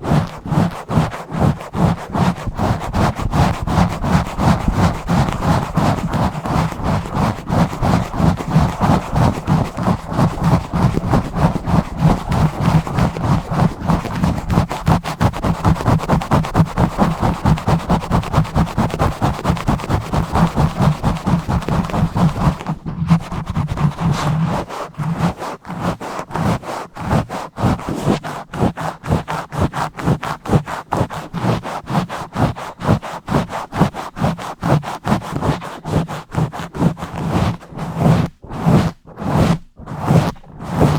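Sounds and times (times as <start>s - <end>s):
fingers scratching microphone: 0.0s - 40.9s.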